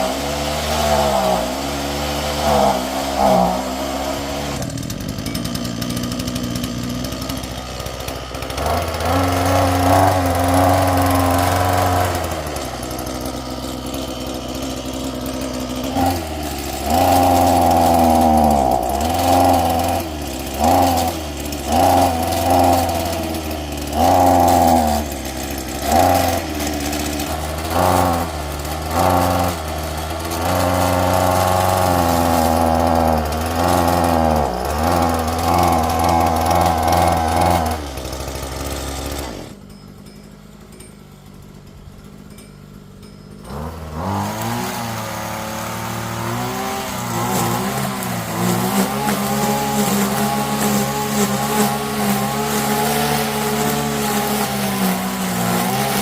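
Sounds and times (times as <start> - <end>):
engine-driven machine running: 0.0 - 56.0.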